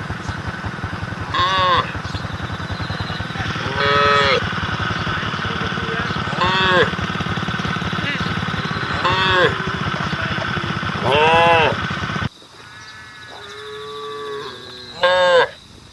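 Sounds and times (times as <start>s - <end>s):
engine running: 0.0s - 15.9s
cattle mooing: 1.2s - 12.0s, 12.8s - 15.6s.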